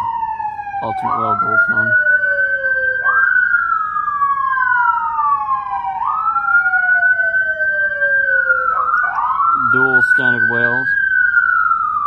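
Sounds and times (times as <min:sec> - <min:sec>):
dual-tone siren wail: 0:00.0 - 0:12.0.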